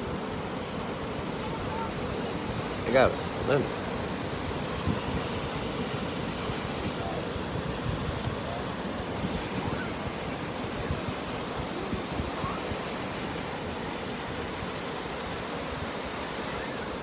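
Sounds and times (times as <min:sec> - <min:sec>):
ocean surf on sandy beach: 0:00.0 - 0:17.0
wind buffeting microphone: 0:00.0 - 0:17.0.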